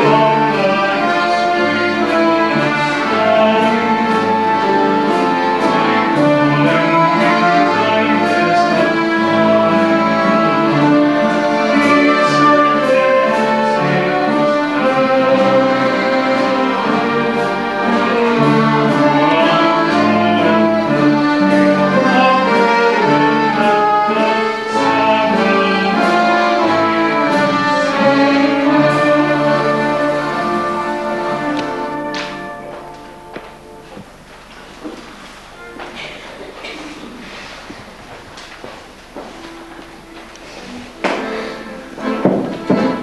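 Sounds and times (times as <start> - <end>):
violins and accordions playing: 0.0 - 34.3, 39.0 - 43.0.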